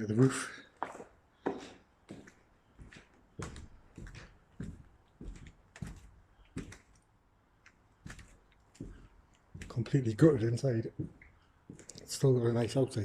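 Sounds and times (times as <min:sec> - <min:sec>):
footsteps indoors: 0:00.0 - 0:12.6.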